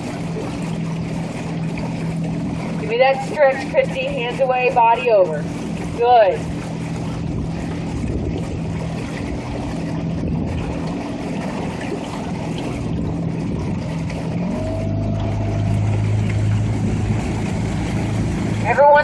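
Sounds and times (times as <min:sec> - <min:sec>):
outboard motor running: 0:00.0 - 0:19.0
water noise: 0:00.0 - 0:19.0
wind: 0:00.0 - 0:19.0.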